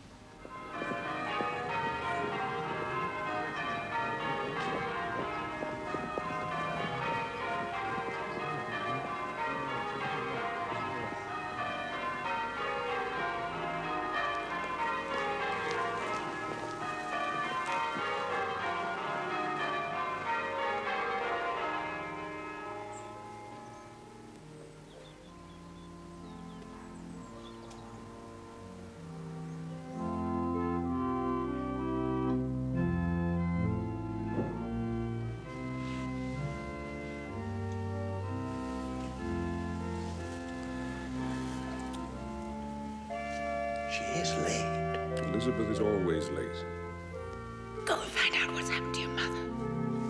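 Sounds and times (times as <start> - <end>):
church bells pealing: 0.0 - 50.0.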